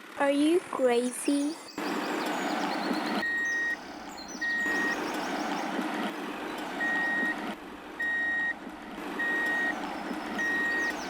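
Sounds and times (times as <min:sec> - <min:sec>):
engine hum: 0:00.0 - 0:11.0
vehicle reversing alarm beeps: 0:01.2 - 0:11.0.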